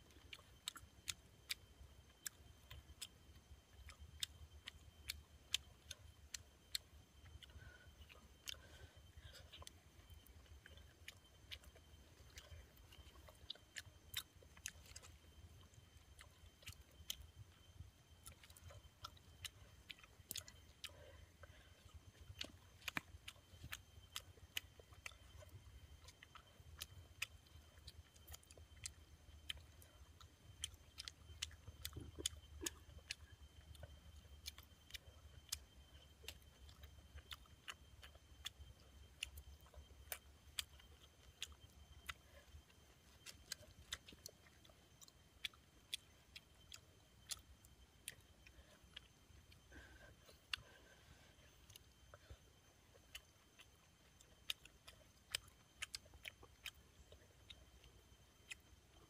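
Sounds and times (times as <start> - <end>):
chewing clicks and smacks: 0.0 - 59.0
faint low hum: 0.0 - 59.0.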